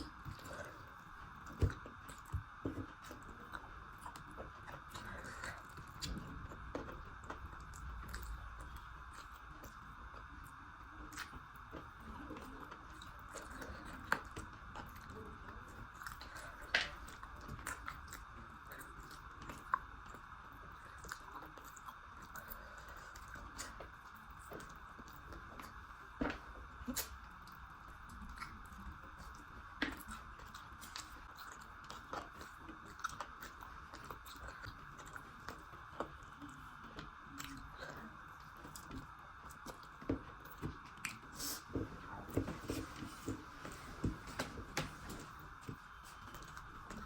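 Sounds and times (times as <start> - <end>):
person chewing food: 0.0 - 47.0.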